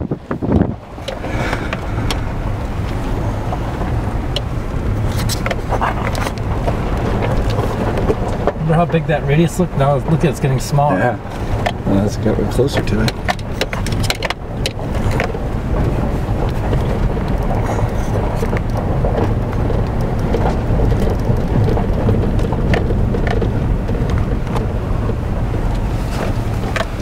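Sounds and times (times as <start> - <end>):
car rumbling on gravel road: 0.0 - 27.0.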